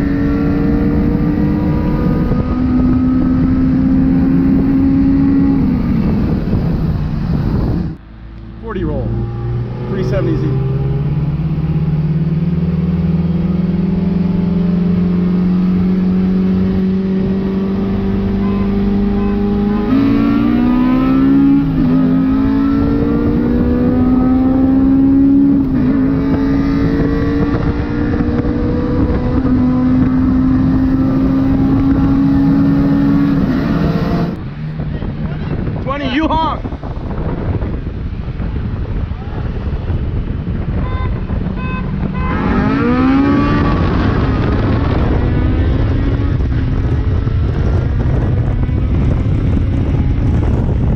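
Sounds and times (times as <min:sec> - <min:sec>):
car engine at full throttle: 0:00.0 - 0:50.9.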